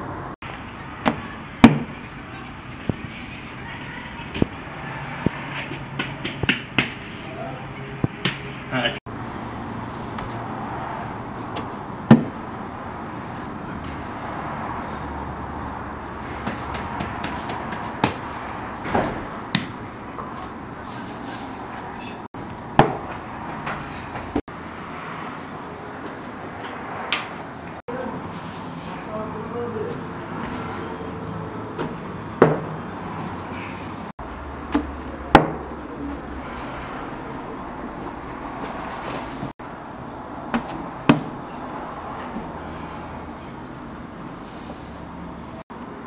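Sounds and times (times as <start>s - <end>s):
steady background noise: 0.0s - 46.0s.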